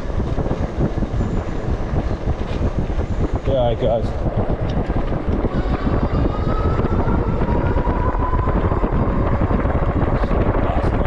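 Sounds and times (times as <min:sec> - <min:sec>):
electric motor whine: 0:00.0 - 0:11.0
wind buffeting microphone: 0:00.0 - 0:11.0.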